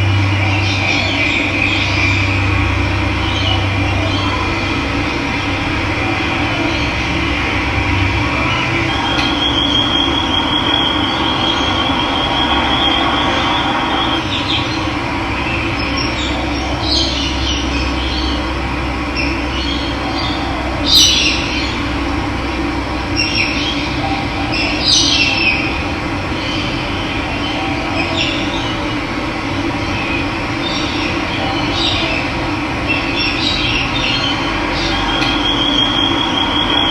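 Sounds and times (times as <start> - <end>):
birds calling: 0.0 - 36.9.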